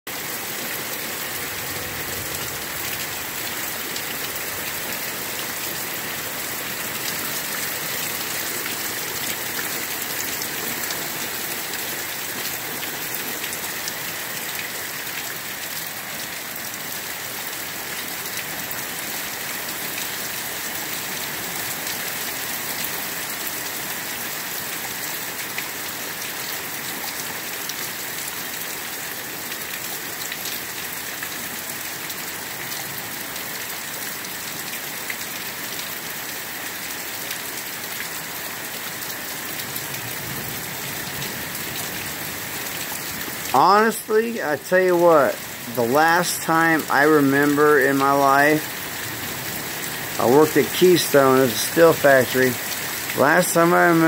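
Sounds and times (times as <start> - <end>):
heavy rain: 0.1 - 54.0.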